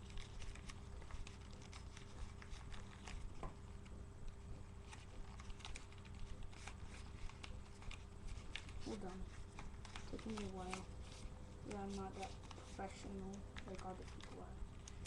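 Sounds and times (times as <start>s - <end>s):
paper rustling and crinkling: 0.0s - 4.0s, 4.6s - 15.0s
faint steady hum: 0.0s - 15.0s.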